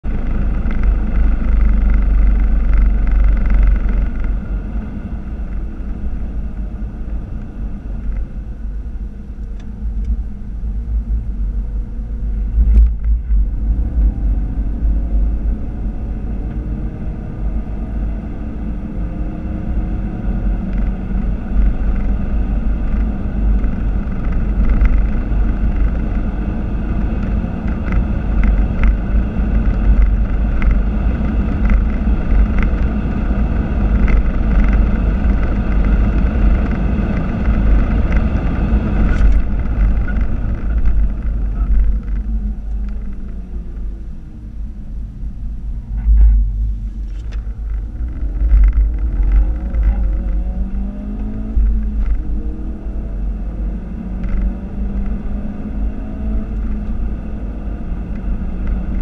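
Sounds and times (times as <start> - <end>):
car engine under throttle: 0.0 - 59.0
wind and road noise: 0.0 - 59.0.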